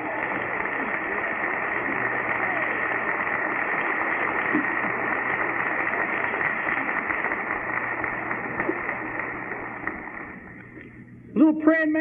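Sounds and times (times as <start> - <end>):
congregation applauding: 0.0 - 10.9.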